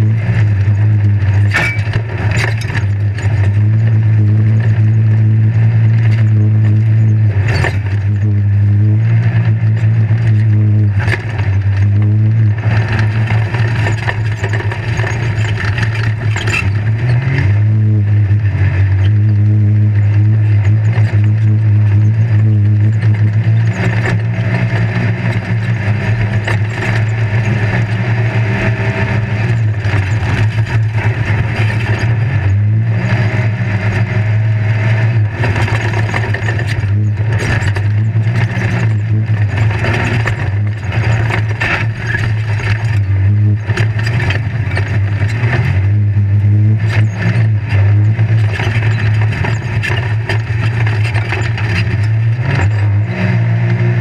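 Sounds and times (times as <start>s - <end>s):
chassis rattling and knocking: 0.0s - 8.4s, 9.2s - 17.7s, 18.5s - 53.3s
engine running under load: 0.0s - 54.0s.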